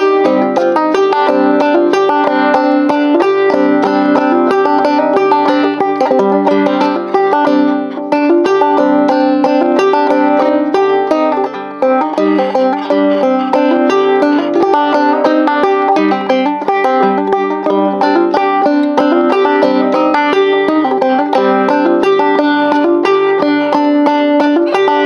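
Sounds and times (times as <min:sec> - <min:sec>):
banjo playing quick plucked notes: 0:00.0 - 0:25.0.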